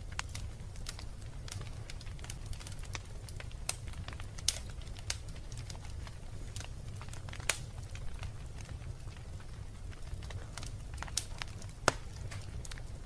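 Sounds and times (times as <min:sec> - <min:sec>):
low rumble of fire: 0:00.0 - 0:13.0
wood fire crackling and popping: 0:00.0 - 0:13.0.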